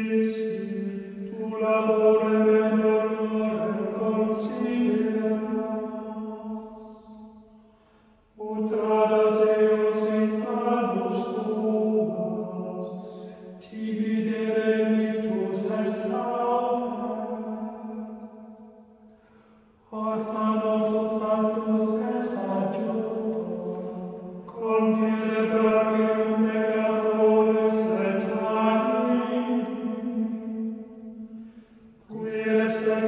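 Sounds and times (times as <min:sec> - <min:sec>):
plainchant singing: 0:00.0 - 0:07.5, 0:08.4 - 0:18.8, 0:19.8 - 0:33.0.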